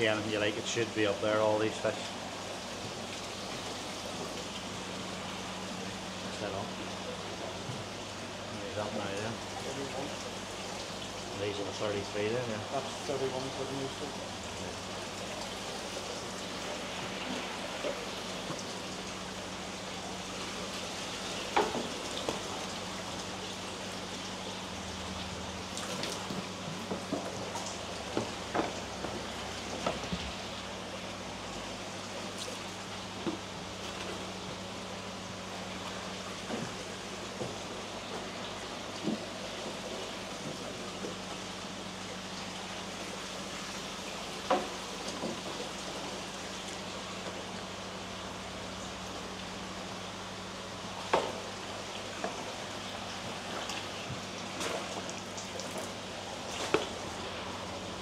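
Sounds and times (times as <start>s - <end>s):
pump hum: 0.0s - 58.0s
water running through tanks: 0.0s - 58.0s.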